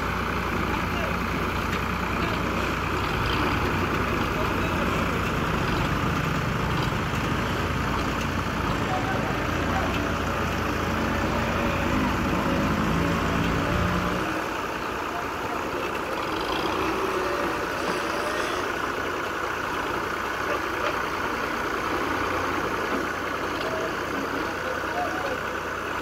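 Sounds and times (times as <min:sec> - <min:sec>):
diesel tractor engines rumbling: 0:00.0 - 0:26.0.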